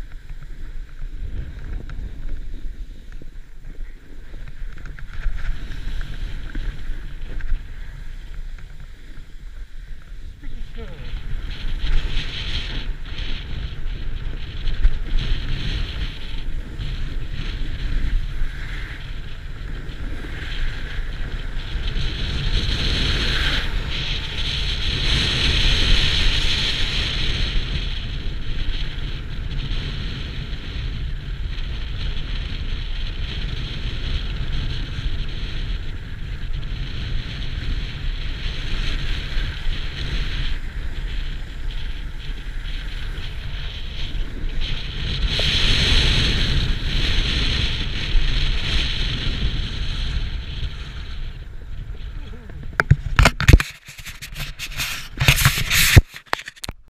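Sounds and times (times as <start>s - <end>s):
snowboard sliding on snow: 0.0s - 56.6s
wind buffeting microphone: 0.0s - 56.8s.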